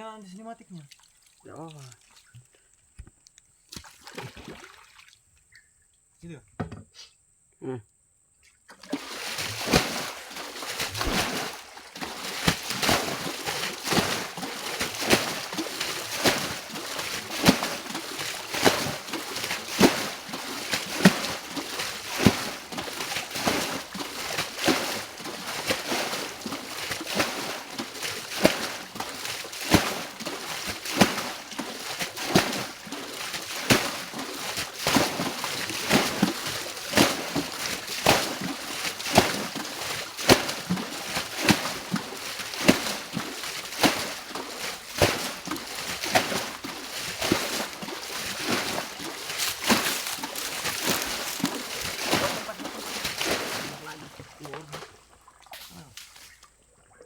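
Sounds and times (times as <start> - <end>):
water splashing: 0.0 - 2.6, 3.7 - 5.3, 8.7 - 57.0
shallow water sloshing: 0.6 - 2.7, 8.7 - 57.0.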